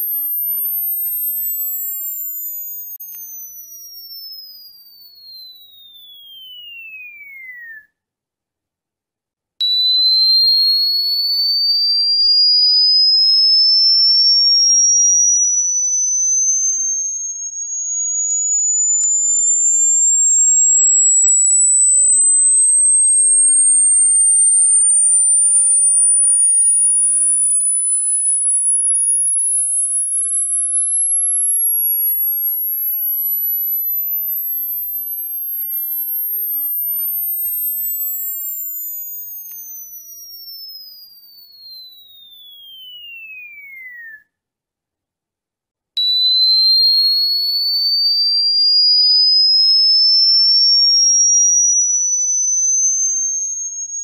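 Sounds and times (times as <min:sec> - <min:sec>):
electronic sine whistle tone: 0:00.0 - 0:08.1, 0:09.6 - 0:44.4, 0:45.9 - 0:54.0.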